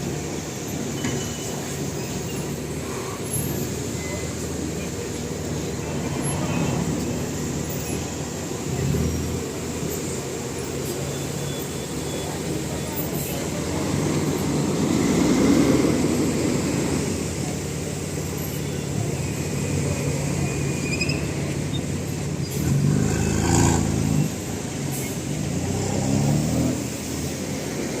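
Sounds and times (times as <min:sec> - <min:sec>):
car engine and exhaust rumbling: 0:00.0 - 0:28.0.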